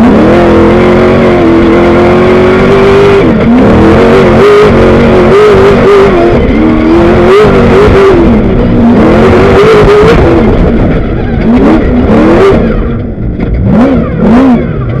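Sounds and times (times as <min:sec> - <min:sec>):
race buggy engine revving: 0:00.0 - 0:15.0.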